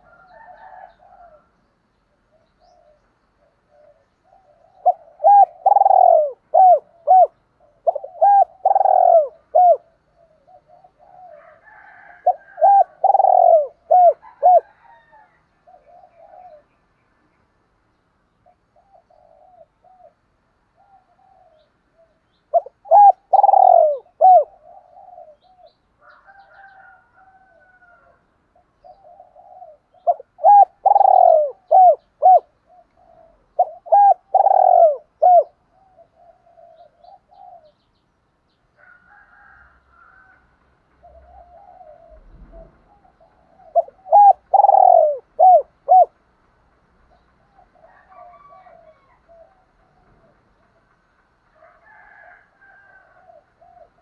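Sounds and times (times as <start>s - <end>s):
dove cooing: 0.0s - 1.6s, 2.2s - 16.8s, 18.4s - 38.0s, 41.0s - 46.2s, 47.1s - 50.9s, 51.6s - 54.0s.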